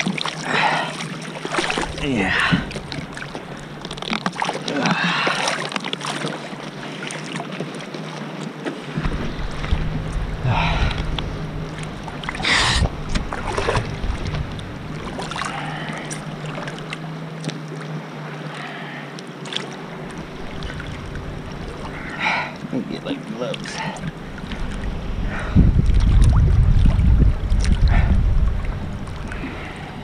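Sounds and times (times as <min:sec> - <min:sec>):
boat engine hum: 0:00.0 - 0:30.0
water sloshing and splashing: 0:00.0 - 0:30.0.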